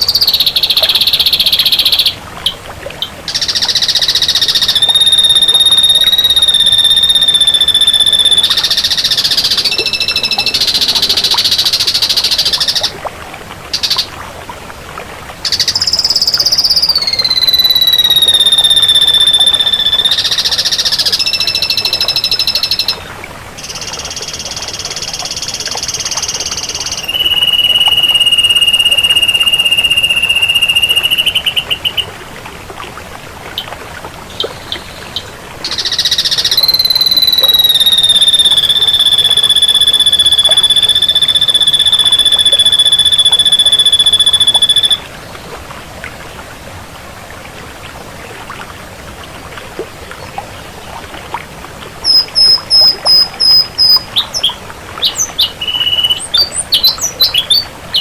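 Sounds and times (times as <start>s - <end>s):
bird song: 0.0s - 12.9s, 13.7s - 14.1s, 15.4s - 32.1s, 33.6s - 45.6s, 52.0s - 58.0s.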